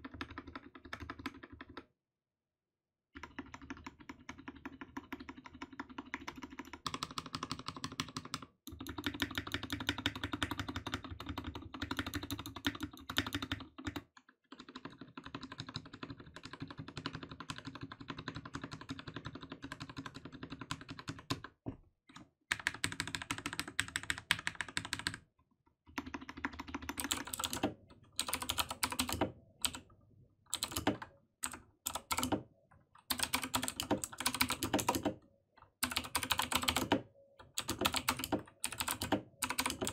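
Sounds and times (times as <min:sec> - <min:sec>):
fast typing on mechanical keyboard: 0:00.0 - 0:01.8, 0:03.2 - 0:21.5, 0:22.5 - 0:25.2, 0:25.9 - 0:29.8, 0:30.5 - 0:35.2, 0:35.8 - 0:39.9.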